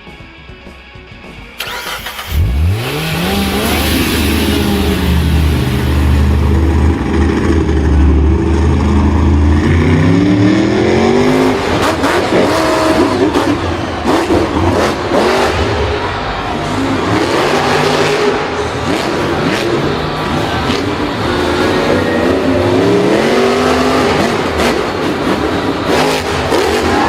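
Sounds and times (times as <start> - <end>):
engine running and revving: 1.6 - 27.0.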